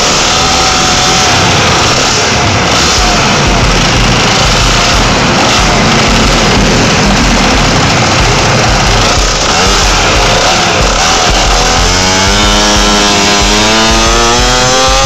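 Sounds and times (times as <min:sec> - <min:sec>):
scooter engine buzzing: 0:00.0 - 0:15.0.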